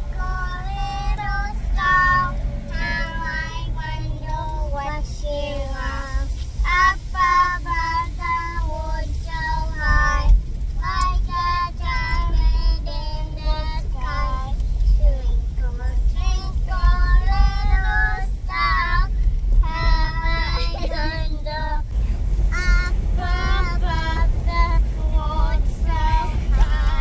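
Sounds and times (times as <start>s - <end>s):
child singing: 0.0s - 21.9s, 22.5s - 27.0s
car road and engine rumble: 0.0s - 27.0s.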